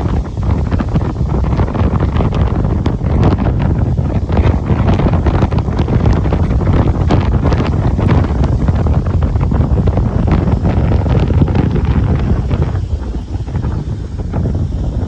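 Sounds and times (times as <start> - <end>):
rough sea surf: 0.0 - 15.0
strong wind buffeting microphone: 0.0 - 15.0.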